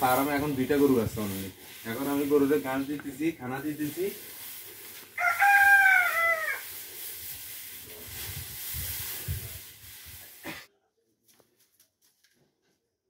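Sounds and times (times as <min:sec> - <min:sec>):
straw handled in feed trough: 0:00.0 - 0:10.6.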